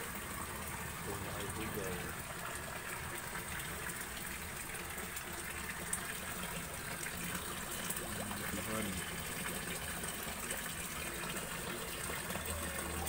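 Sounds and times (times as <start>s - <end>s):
water running from a hose: 0.0s - 13.0s.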